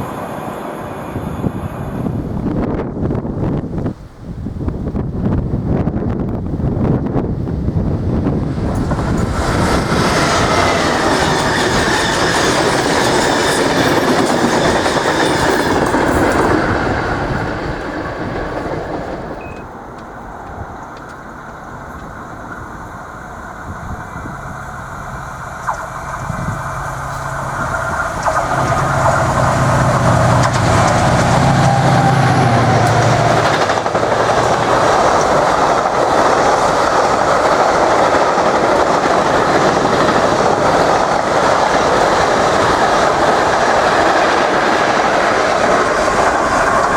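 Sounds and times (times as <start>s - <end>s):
freight train wheels clattering: 8.1s - 46.9s.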